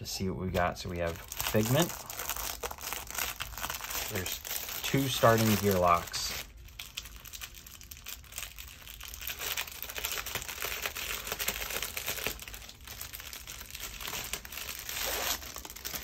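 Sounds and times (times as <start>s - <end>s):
packaging crinkling and rustling: 0.5s - 16.0s.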